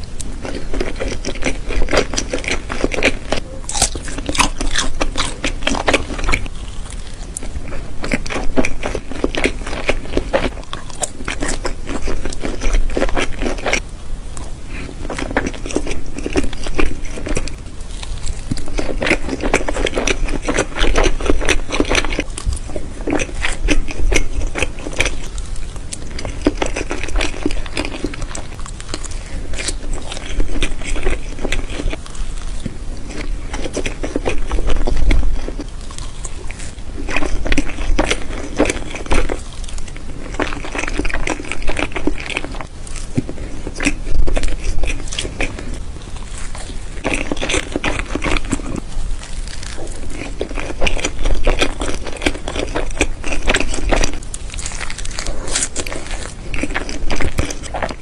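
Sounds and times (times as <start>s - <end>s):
person chewing soft food: 0.0s - 58.0s.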